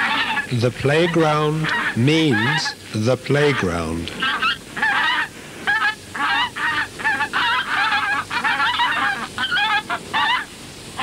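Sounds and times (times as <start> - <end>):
goose-like animal calls: 0.0 - 2.8, 3.4 - 11.0.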